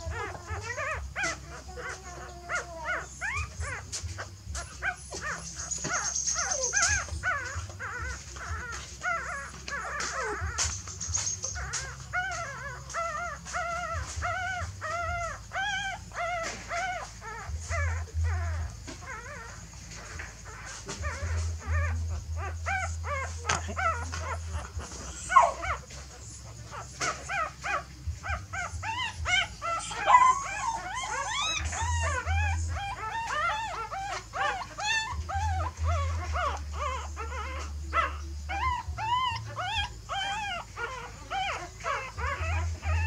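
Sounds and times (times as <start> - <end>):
newborn puppies crying: 0.0 - 43.0.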